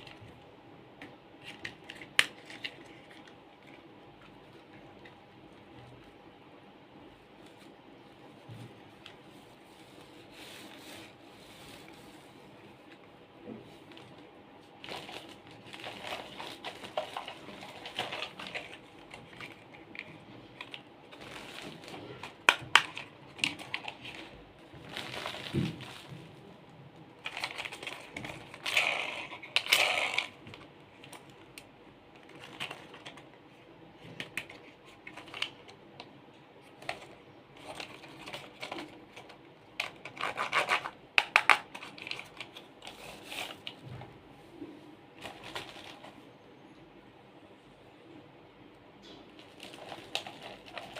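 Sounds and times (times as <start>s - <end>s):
crinkling and scratching: 0.0s - 6.3s, 7.0s - 46.4s, 49.0s - 50.9s.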